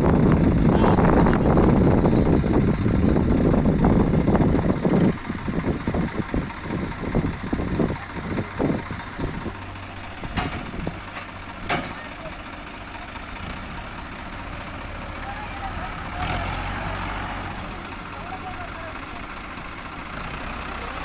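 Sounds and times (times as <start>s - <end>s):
engine knocks: 0.0s - 21.0s
tractor diesel engine: 0.0s - 21.0s.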